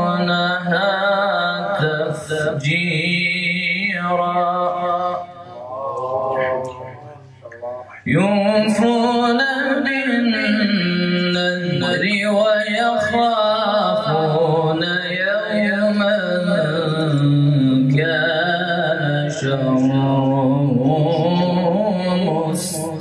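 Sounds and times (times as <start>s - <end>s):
man reciting in melodic chant: 0.0s - 23.0s.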